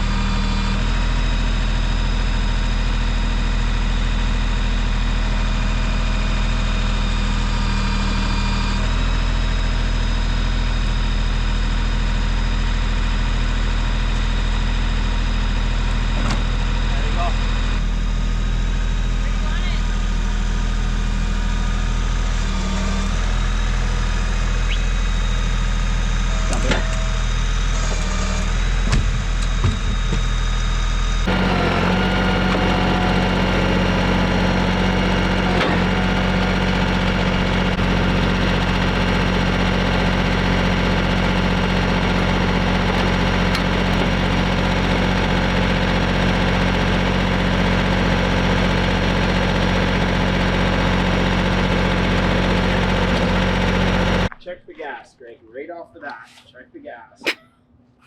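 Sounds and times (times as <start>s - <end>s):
engine idling: 0.0s - 54.3s.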